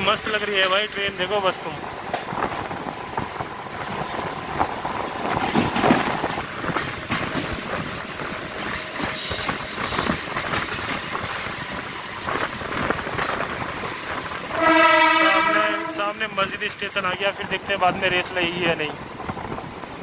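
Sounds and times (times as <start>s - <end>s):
train clicks and rattles: 0.0s - 20.0s
train wheels rumbling on rails: 0.0s - 20.0s.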